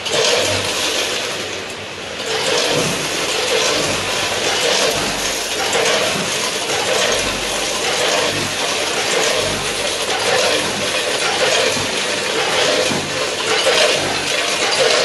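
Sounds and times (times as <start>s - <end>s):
weighing machine running: 0.0s - 15.0s.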